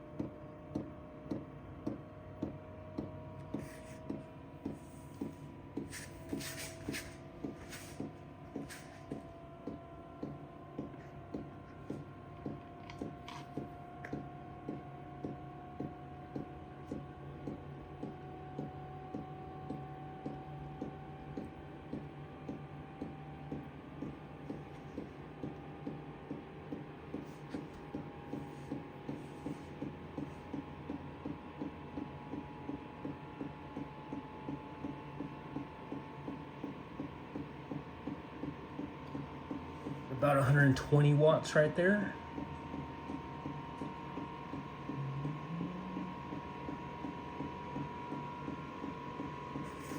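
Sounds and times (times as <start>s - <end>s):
blower fan humming whine: 0.0s - 49.9s.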